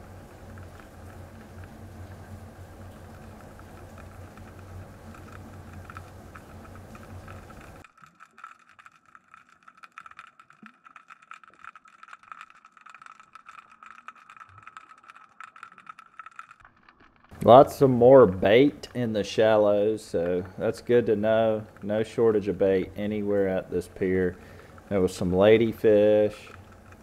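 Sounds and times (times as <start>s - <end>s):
rapid irregular clicks: 0.0s - 27.0s.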